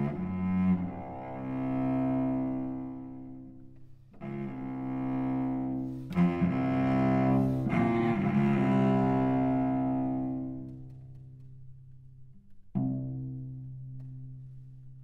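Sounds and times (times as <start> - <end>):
cello playing long bowed notes: 0.0 - 15.0.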